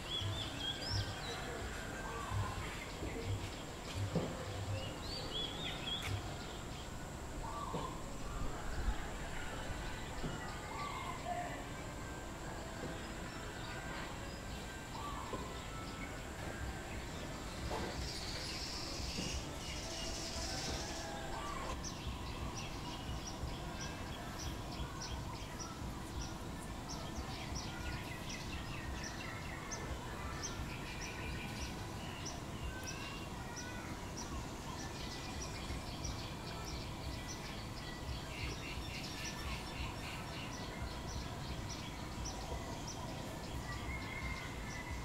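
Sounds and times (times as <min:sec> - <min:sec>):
birds chirping and warbling: 0:00.0 - 0:45.0.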